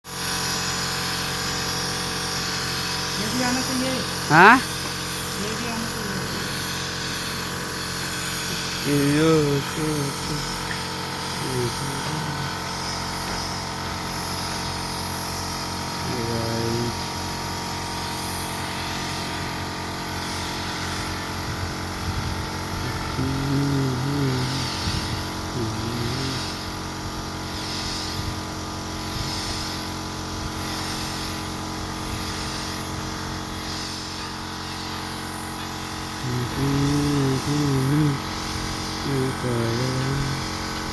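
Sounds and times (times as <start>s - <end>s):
air compressor running: 0.1s - 40.9s
paint spray gun hissing: 0.1s - 40.9s.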